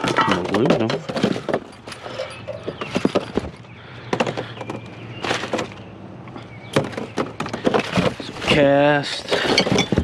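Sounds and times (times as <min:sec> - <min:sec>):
scrap items knocking and clanking: 0:00.0 - 0:05.8, 0:06.7 - 0:10.0.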